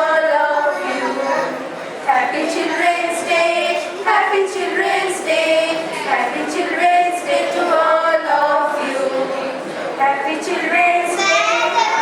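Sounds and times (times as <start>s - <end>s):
woman singing: 0.0s - 1.4s, 2.1s - 11.7s.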